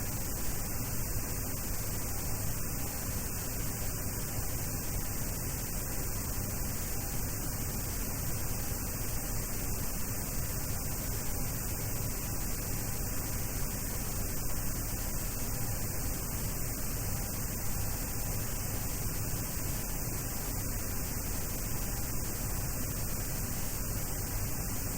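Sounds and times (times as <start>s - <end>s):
static hiss: 0.0s - 24.9s.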